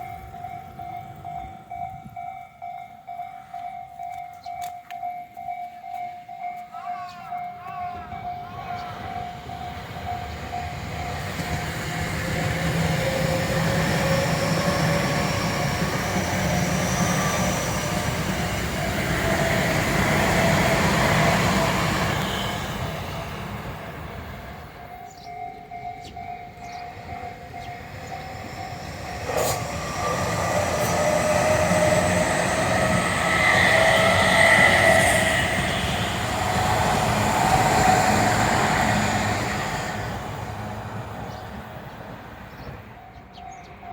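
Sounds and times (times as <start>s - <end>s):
electric trains passing: 0.0s - 43.9s
wheel and rail rumble: 0.0s - 43.9s.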